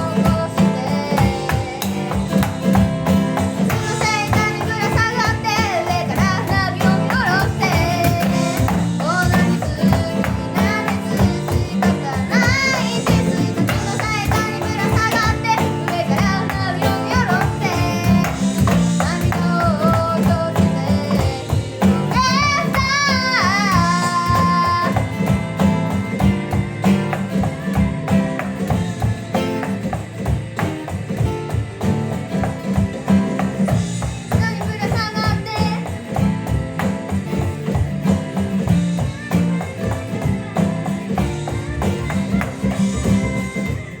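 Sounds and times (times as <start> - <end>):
pop song with female vocal: 0.0 - 29.7, 32.7 - 36.4, 38.6 - 44.0
drum kit playing: 0.0 - 44.0.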